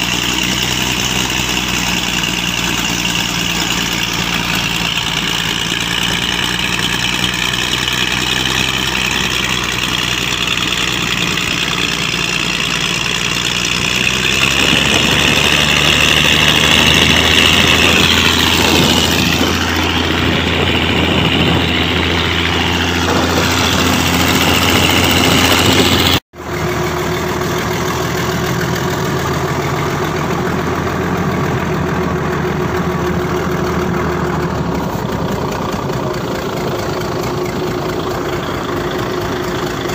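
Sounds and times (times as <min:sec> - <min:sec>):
diesel engine running with whine: 0:00.0 - 0:39.9.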